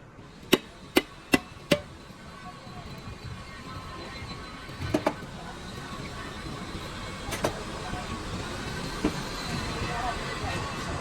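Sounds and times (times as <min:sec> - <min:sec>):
workshop background noise: 0:00.0 - 0:11.0.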